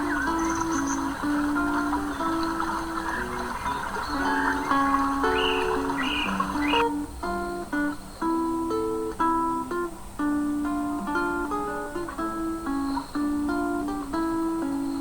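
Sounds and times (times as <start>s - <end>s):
slow acoustic guitar melody: 0.0s - 15.0s.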